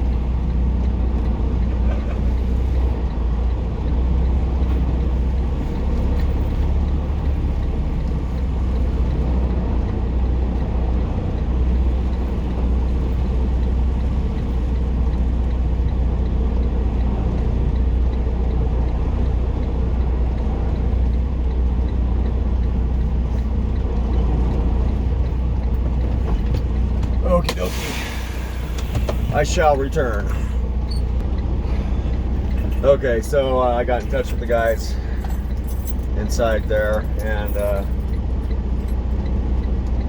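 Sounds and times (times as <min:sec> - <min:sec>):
truck diesel engine droning: 0:00.0 - 0:40.0.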